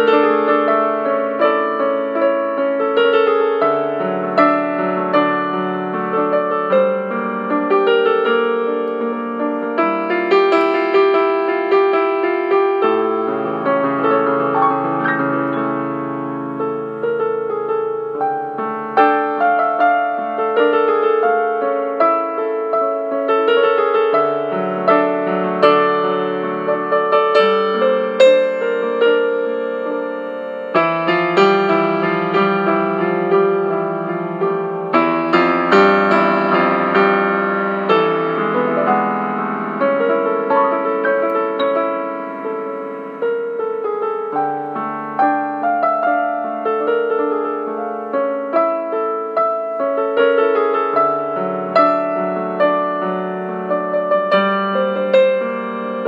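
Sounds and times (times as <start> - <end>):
calm solo piano piece: 0.0 - 56.0.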